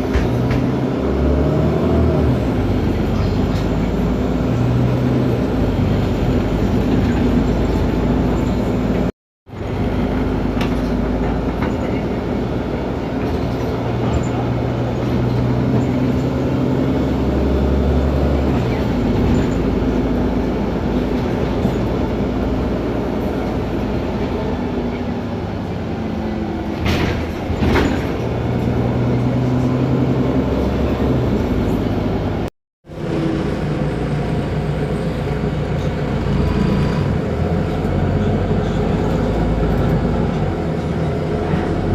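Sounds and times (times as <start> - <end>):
bus engine running: 0.0 - 41.9.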